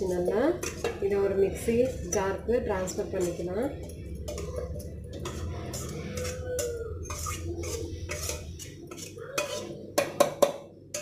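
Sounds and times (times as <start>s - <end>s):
metal spoon scraping metal pan: 0.0s - 11.0s.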